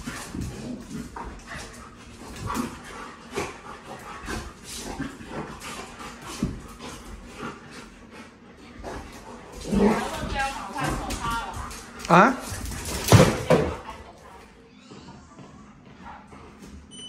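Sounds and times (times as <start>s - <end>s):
dogs panting and whining: 0.0s - 13.1s, 13.8s - 17.0s
paws scuffling on hard floor: 0.0s - 16.9s.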